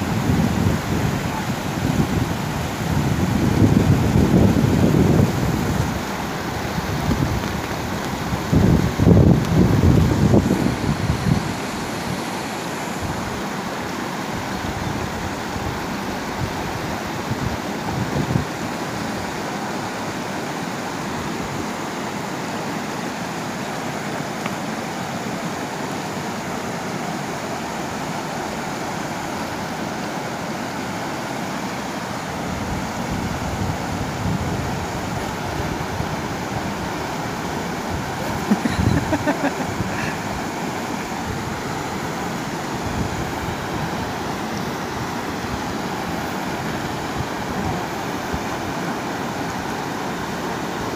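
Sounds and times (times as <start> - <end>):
river rapids rushing over rocks: 0.0 - 50.9.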